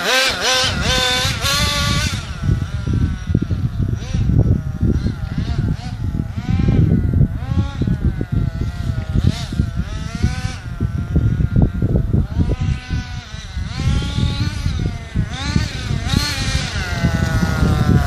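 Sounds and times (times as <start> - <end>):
toy truck motor whining: 0.0 - 18.0.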